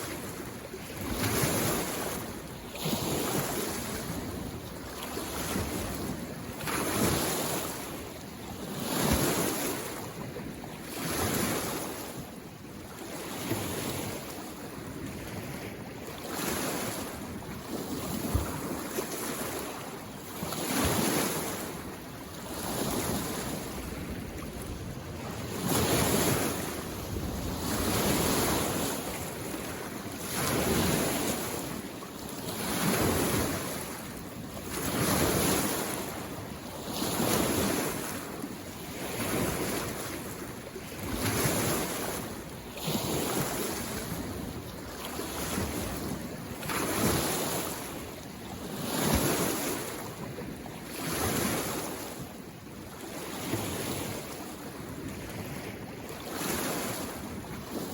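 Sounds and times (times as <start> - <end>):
small waves washing on shore: 0.0 - 57.9.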